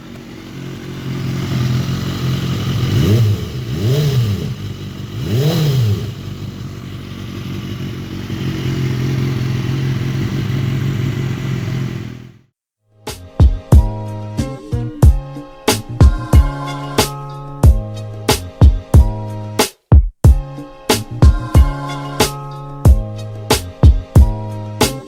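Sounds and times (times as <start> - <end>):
motorcycle engine idling and revving: 0.0 - 12.6, 15.0 - 19.6, 20.3 - 25.0.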